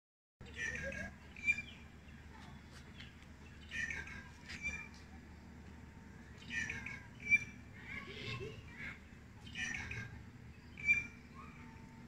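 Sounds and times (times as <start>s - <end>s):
birds chirping and squawking: 0.4s - 5.1s, 6.4s - 12.0s.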